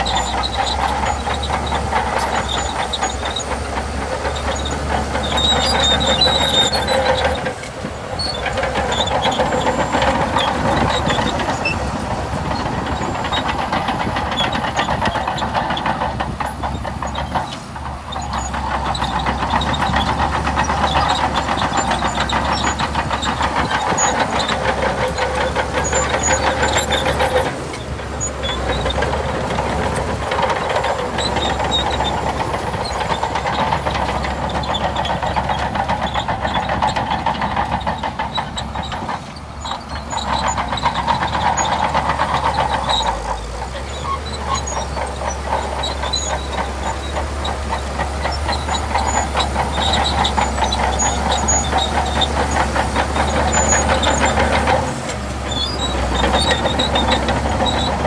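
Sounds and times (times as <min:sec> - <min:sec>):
bulldozer diesel engine clattering: 0:00.0 - 0:58.0.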